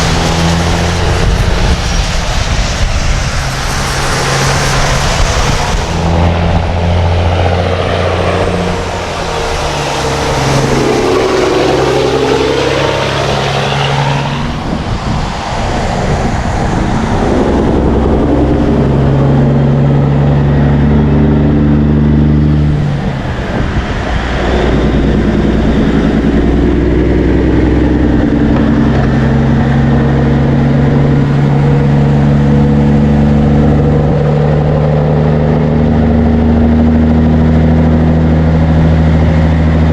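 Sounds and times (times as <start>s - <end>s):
steady engine hum: 0.0s - 39.9s
vehicles driving past: 0.0s - 39.9s.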